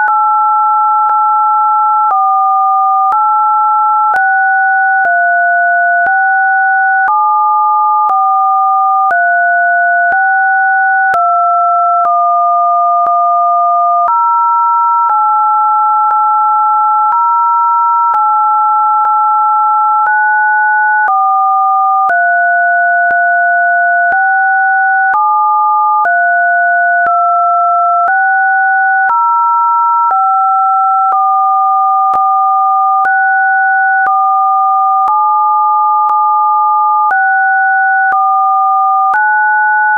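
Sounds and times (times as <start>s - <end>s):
electronic sine tones: 0.0s - 39.9s.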